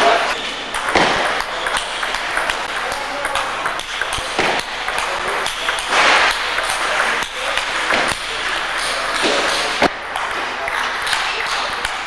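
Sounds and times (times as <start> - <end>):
table tennis ball clicking: 0.7 - 12.0.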